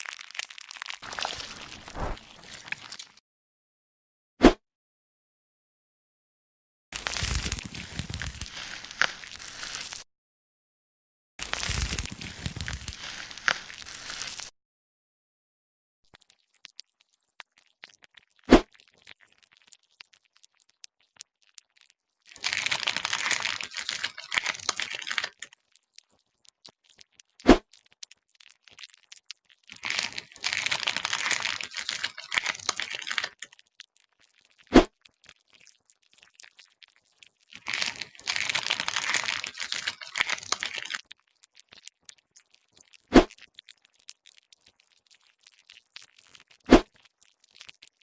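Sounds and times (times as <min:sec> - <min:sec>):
crinkling crackling: 0:00.0 - 0:03.2, 0:07.0 - 0:10.0, 0:11.4 - 0:14.5, 0:16.1 - 0:48.0.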